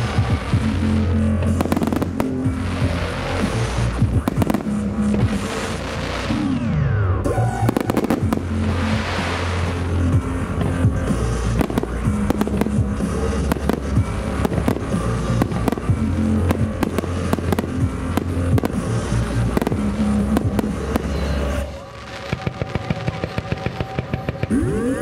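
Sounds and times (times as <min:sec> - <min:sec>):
bass-heavy music over loudspeaker: 0:00.0 - 0:25.0.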